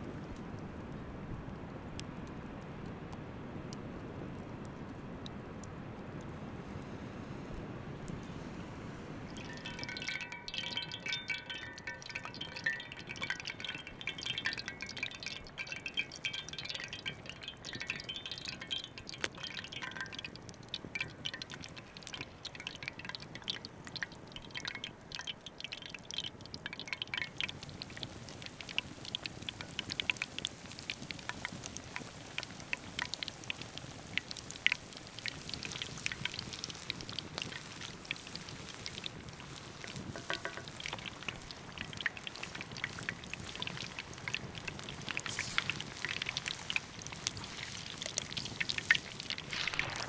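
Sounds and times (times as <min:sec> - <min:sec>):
crackles and pops of frying: 0:00.0 - 0:50.0
food deep-frying in hot oil: 0:00.0 - 0:50.0.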